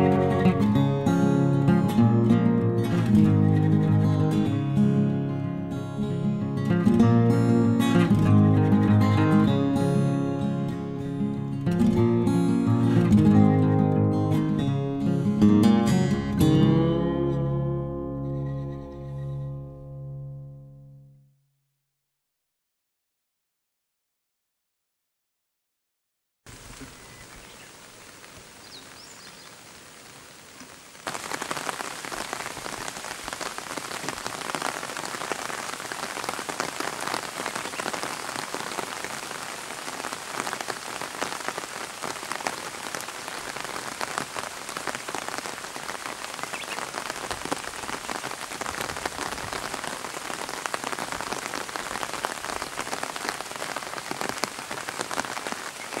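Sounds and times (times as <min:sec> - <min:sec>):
steady rain falling: 0:00.0 - 0:17.4, 0:26.5 - 0:56.0.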